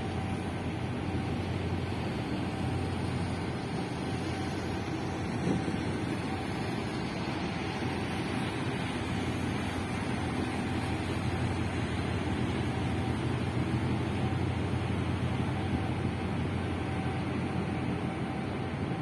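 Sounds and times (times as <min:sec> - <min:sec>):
ship engine low rumble: 0:00.0 - 0:19.0.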